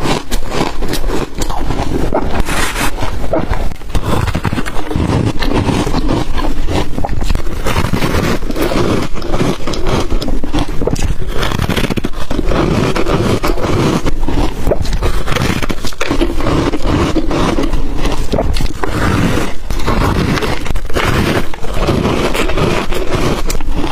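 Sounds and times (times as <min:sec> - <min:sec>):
ice being crunched: 0:00.0 - 0:23.9.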